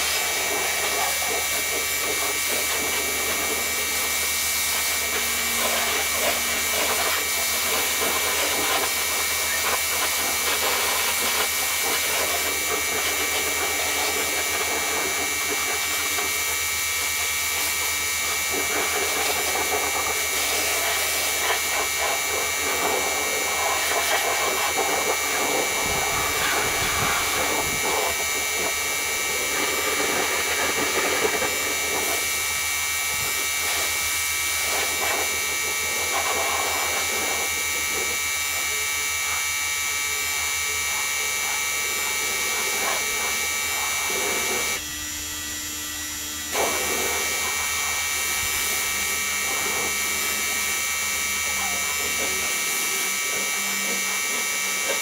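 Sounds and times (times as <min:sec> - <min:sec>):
small electric motor buzzing: 0:00.0 - 0:55.0.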